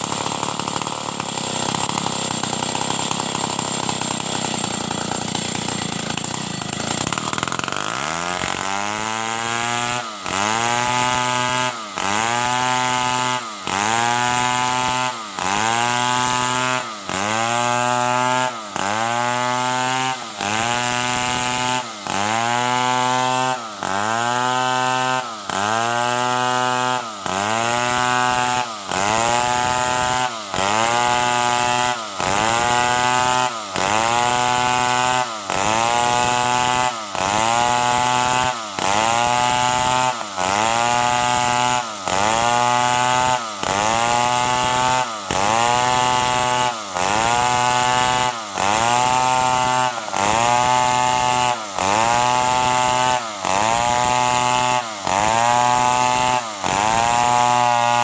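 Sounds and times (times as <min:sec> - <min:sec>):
chainsaw running hard: 0:00.0 - 0:58.0.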